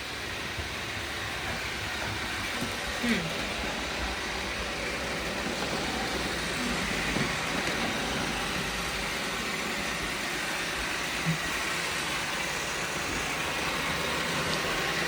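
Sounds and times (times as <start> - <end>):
robot vacuums humming: 0.0 - 15.0.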